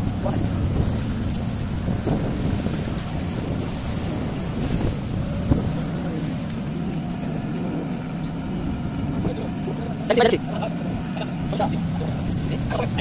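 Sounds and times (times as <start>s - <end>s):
boat engine rumbling: 0.0s - 13.0s
wind buffeting microphone: 0.0s - 13.0s.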